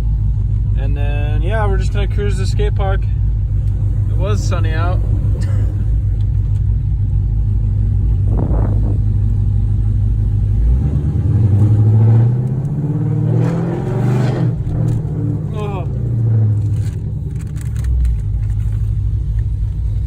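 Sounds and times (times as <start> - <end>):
car engine accelerating: 1.5 - 20.0.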